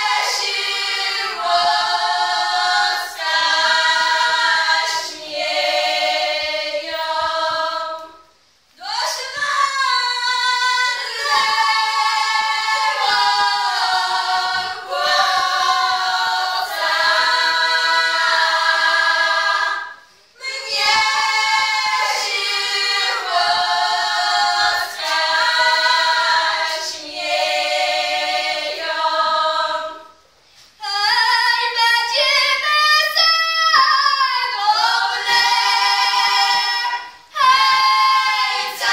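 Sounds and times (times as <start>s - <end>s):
women singing a cappella: 0.0s - 38.9s.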